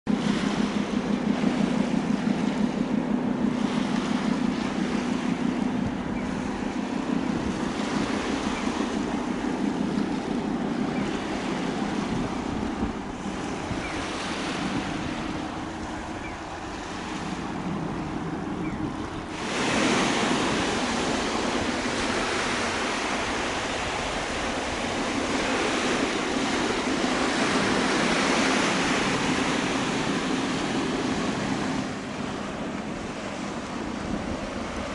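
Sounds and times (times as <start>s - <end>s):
low pulsing engine hum: 0.0s - 34.9s
waves washing: 0.1s - 34.9s
wind buffeting the microphone: 0.1s - 34.9s.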